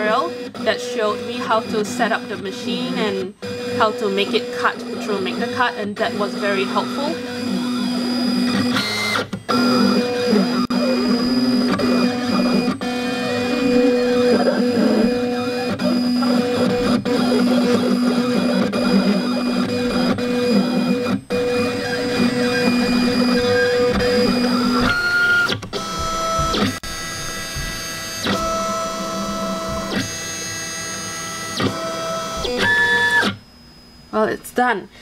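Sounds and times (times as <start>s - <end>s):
craft cutter motors whining: 0.0s - 34.1s.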